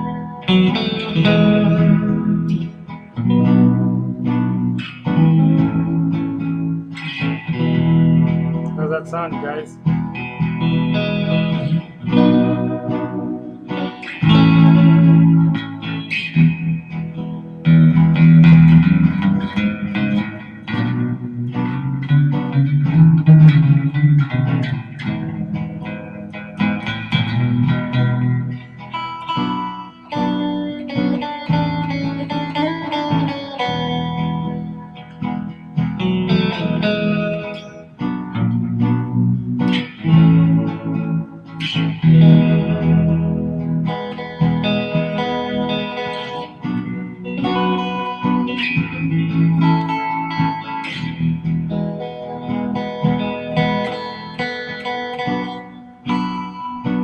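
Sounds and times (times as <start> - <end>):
electric guitar with effects: 0.0 - 57.0
looped guitar part: 0.0 - 57.0.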